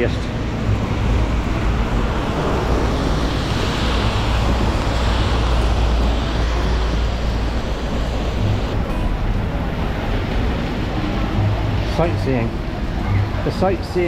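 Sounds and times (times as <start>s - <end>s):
low rumble: 0.0s - 13.4s
torrential rain: 0.0s - 14.0s.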